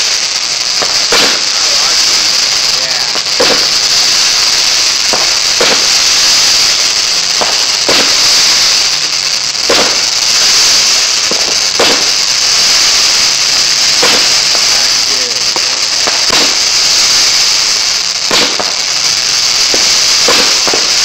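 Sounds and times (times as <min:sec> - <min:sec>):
firework hiss: 0:00.0 - 0:21.0
firework pops: 0:00.0 - 0:21.0.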